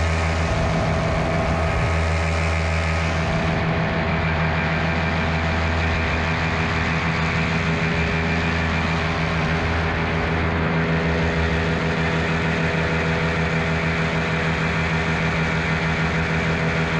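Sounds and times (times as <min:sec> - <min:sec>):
paramotor engine running: 0:00.0 - 0:16.9.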